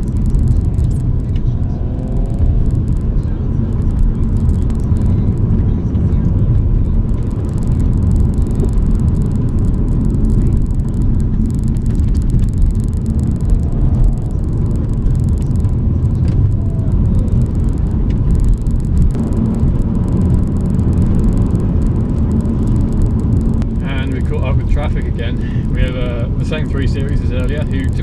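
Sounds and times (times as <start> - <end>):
car engine running: 0.0 - 28.0
road noise: 0.0 - 28.0.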